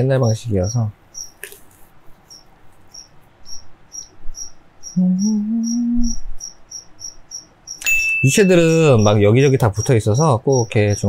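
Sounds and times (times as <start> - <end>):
cricket chirping: 0.2 - 1.4, 2.3 - 11.0.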